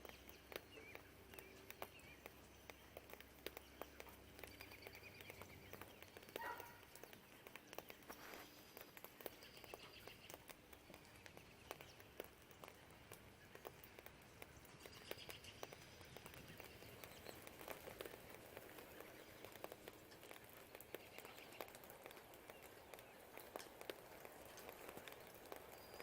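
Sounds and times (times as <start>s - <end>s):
faint birds chirping: 0.0s - 26.0s
rain drops tapping and dripping: 0.0s - 26.0s.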